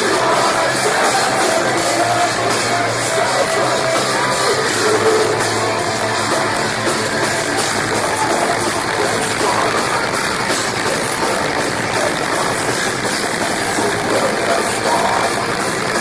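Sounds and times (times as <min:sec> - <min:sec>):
metalcore band playing live: 0:00.0 - 0:16.0.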